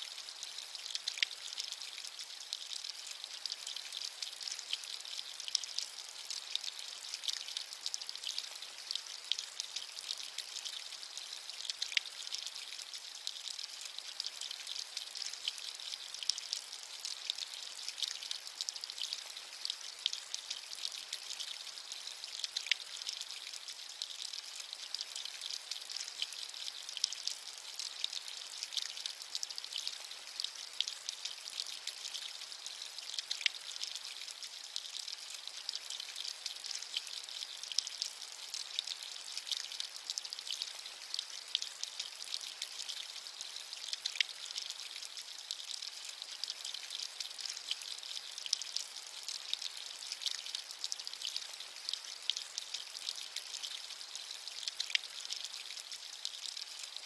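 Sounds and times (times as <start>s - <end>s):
rain patter hiss: 0.0s - 57.0s.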